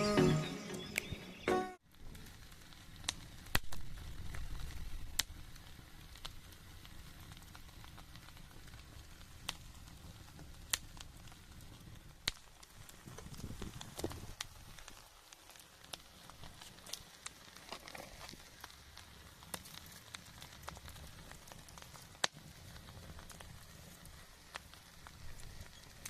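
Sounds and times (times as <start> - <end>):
wood fire crackling and popping: 1.8 - 26.0.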